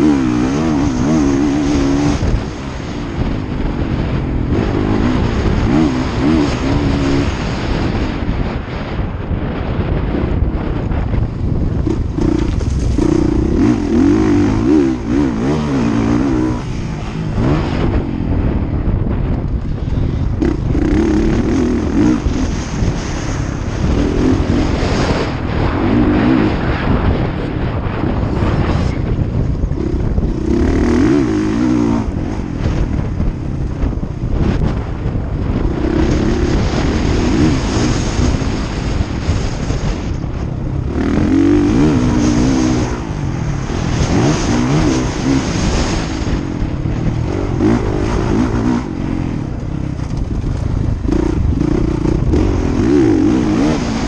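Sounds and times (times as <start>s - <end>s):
motocross engines revving: 0.0s - 8.4s, 11.7s - 18.6s, 19.9s - 27.2s, 29.7s - 33.4s, 35.4s - 54.0s
constant low rumble: 0.0s - 54.0s.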